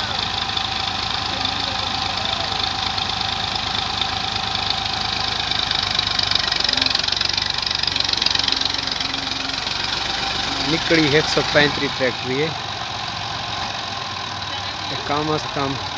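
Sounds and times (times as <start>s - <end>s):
tractor engine idling: 0.0s - 15.9s.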